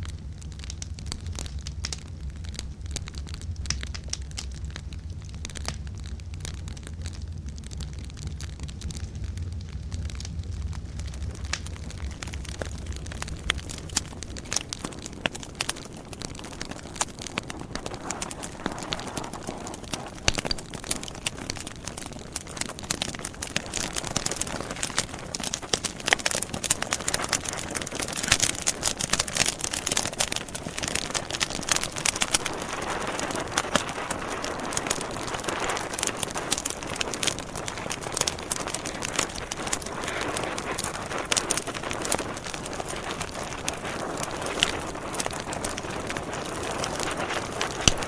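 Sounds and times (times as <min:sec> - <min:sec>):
campfire crackling and popping: 0:00.0 - 0:48.0
hiss of flames: 0:00.0 - 0:48.0.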